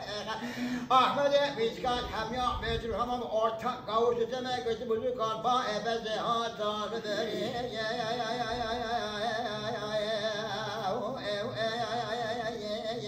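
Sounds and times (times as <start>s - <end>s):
person singing with vibrato: 0.0s - 13.0s.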